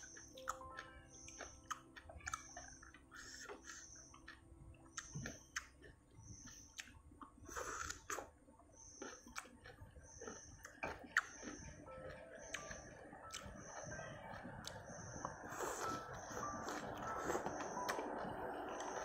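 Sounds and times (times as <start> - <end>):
person chewing: 0.0 - 19.0.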